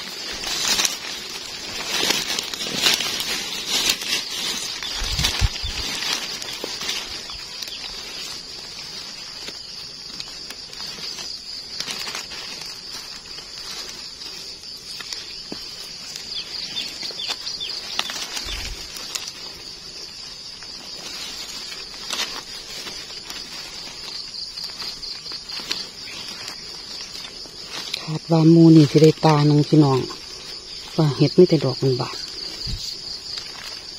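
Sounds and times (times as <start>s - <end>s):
dry leaves rustling and crackling: 0.0s - 33.9s
high drone of insects: 0.0s - 33.9s.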